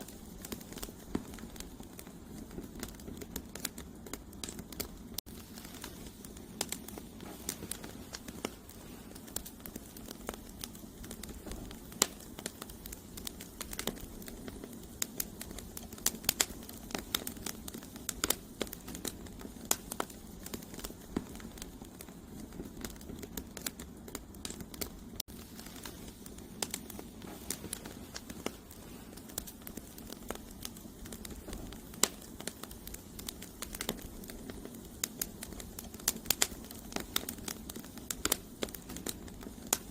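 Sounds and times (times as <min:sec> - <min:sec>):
campfire crackling and popping: 0:00.0 - 0:39.9
flame rushing: 0:00.0 - 0:39.9.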